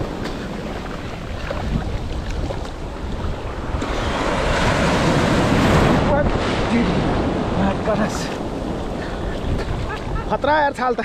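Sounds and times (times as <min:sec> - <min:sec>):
waves breaking: 0:00.0 - 0:11.0
wind buffeting microphone: 0:00.0 - 0:11.0.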